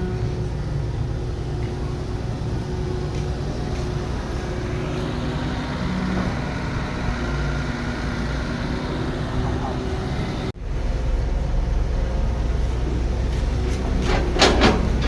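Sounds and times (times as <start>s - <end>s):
heavy machinery engine rumbling: 0.0s - 15.0s.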